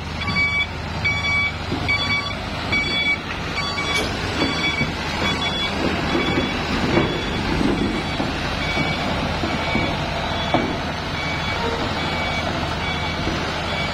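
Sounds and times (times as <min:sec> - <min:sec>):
truck engine running: 0:00.0 - 0:13.9
truck reversing alarm beeping: 0:00.0 - 0:13.9.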